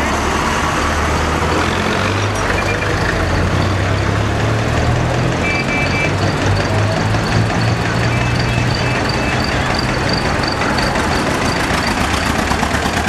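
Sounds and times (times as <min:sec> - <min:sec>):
tractor engines puttering: 0:00.0 - 0:13.0.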